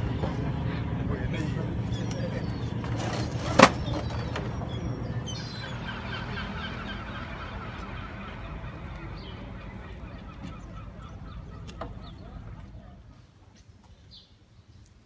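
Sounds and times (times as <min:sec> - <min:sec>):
flock of birds calling: 0:00.0 - 0:14.3
steady low rumble: 0:00.0 - 0:15.0.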